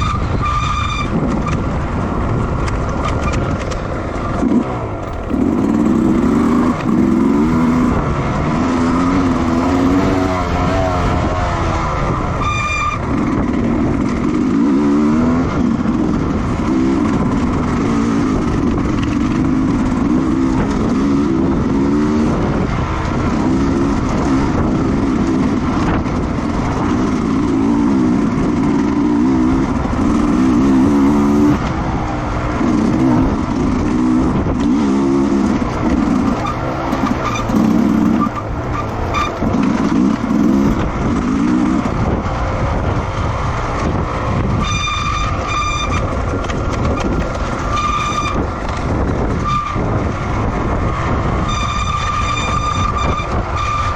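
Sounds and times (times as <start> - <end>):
racing motorcycle engines: 0.0 - 53.9.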